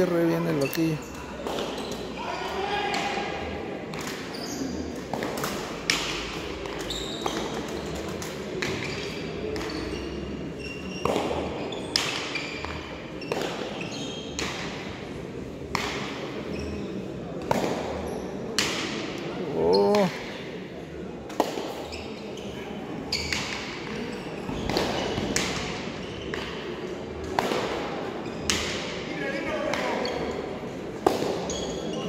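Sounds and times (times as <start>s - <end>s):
murmur of spectators: 0.0s - 32.0s.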